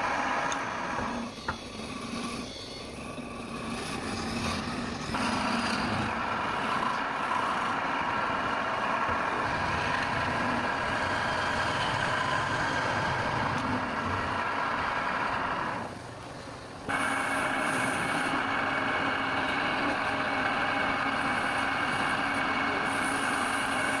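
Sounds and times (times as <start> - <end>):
wood lathe motor whine: 0.0 - 24.0.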